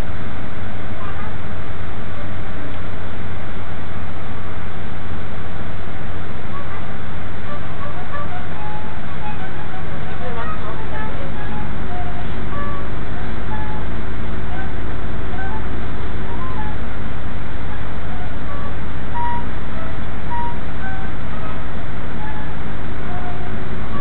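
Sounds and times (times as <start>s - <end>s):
train rumbling inside carriage: 0.0s - 24.0s.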